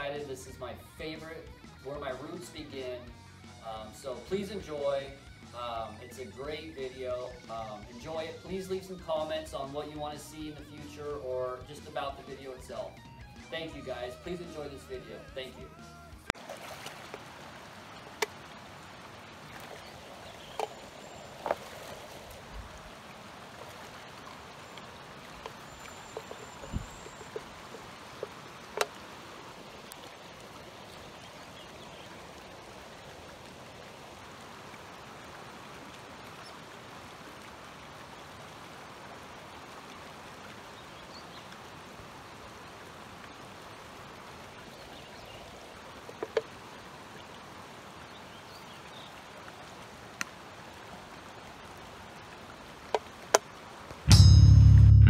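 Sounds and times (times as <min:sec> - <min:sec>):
rocky creek flowing: 0:00.0 - 0:54.1.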